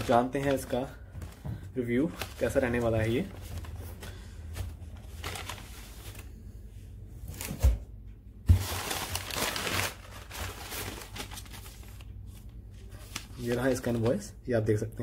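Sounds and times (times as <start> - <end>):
packing paper rustling: 0.0 - 6.6, 8.5 - 14.3.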